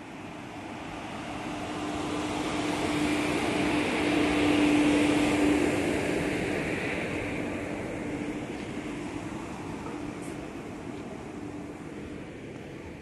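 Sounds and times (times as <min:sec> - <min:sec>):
electric locomotive hum: 0:00.0 - 0:13.0
wheels rumbling on rails: 0:00.0 - 0:13.0.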